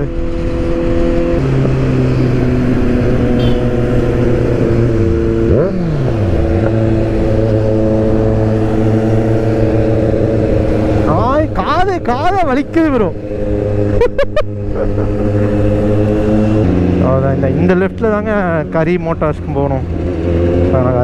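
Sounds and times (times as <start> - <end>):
motorcycle engine at speed: 0.0 - 21.0
passing engine revving: 0.0 - 21.0.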